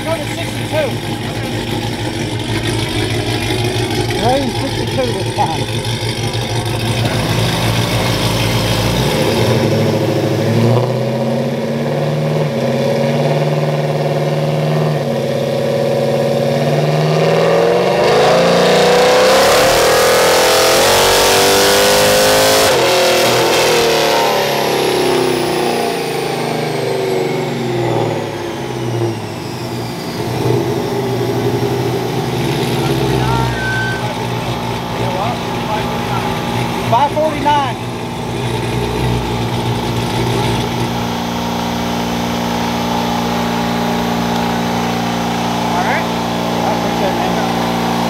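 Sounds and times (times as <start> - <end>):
engine revving on dyno: 0.0 - 48.0.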